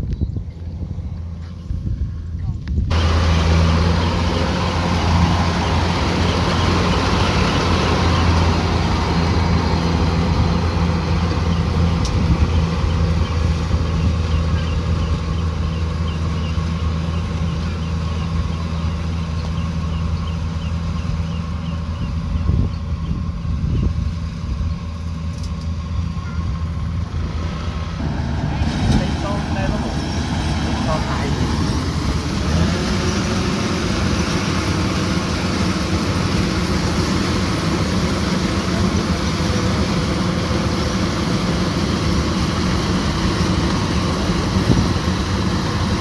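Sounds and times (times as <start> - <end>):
combine harvester running: 0.0 - 46.0.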